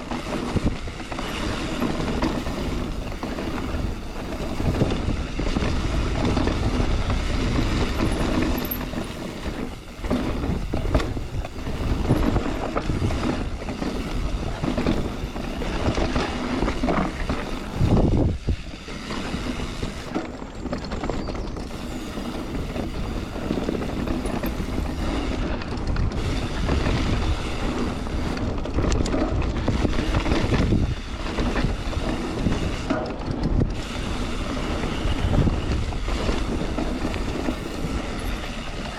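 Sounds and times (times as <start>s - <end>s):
bike rattling over rough ground: 0.0s - 38.9s
low rumble of tyre noise: 0.0s - 38.9s.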